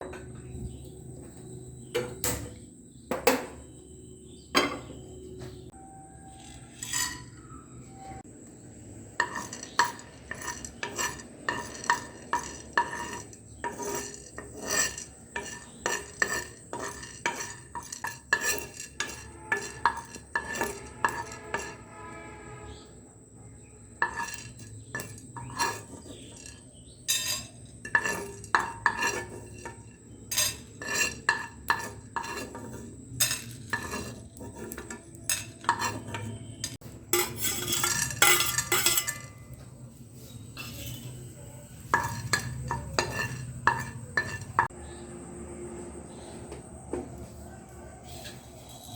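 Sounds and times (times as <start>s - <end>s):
metal utensil clinking on cookware: 0.0s - 3.8s, 4.4s - 5.5s, 6.2s - 8.2s, 9.1s - 22.8s, 23.6s - 44.7s.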